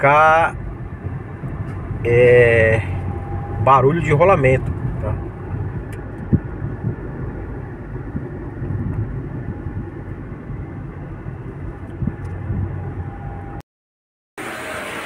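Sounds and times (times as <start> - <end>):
car road and engine rumble: 0.0 - 13.6.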